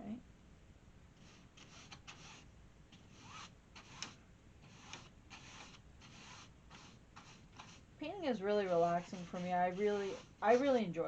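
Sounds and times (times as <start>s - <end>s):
paintbrush scrubbing on canvas: 1.2s - 11.0s.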